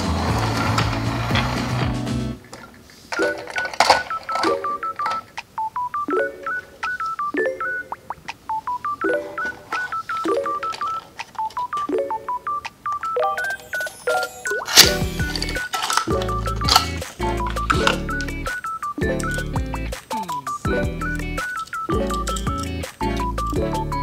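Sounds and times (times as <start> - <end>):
beep-like electronic melody: 3.2 - 24.0.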